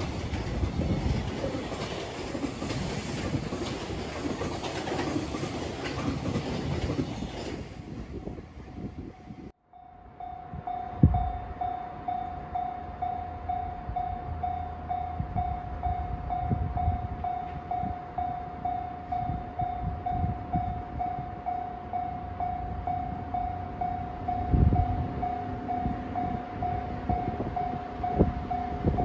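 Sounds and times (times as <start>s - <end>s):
low gusty rumbles: 0.0s - 29.0s.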